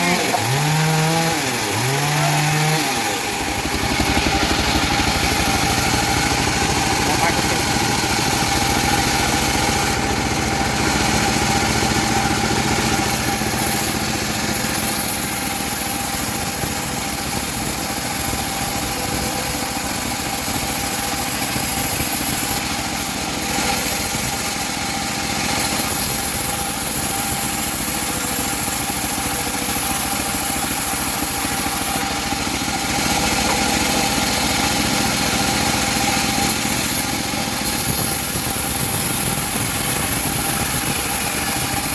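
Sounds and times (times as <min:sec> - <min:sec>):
bandsaw mill running: 0:00.0 - 0:41.9.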